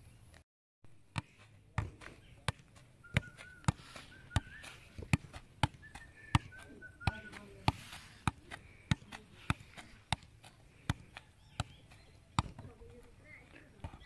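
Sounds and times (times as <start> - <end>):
football thuds on feet: 1.1 - 13.0.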